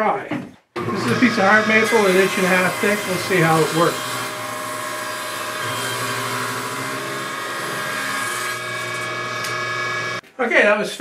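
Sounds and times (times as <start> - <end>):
table saw cutting wood: 0.8 - 10.2.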